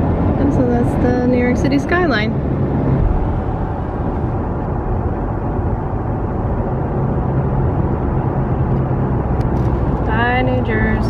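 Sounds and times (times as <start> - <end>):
low steady engine hum: 0.0 - 11.0
road noise inside vehicle cabin: 0.0 - 11.0.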